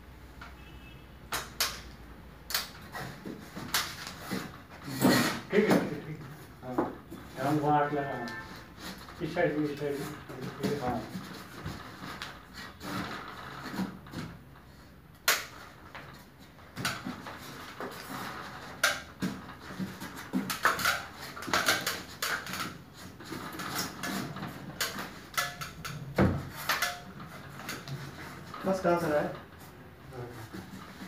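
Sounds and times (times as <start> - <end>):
air conditioner casing clicks and knocks: 1.3 - 31.0.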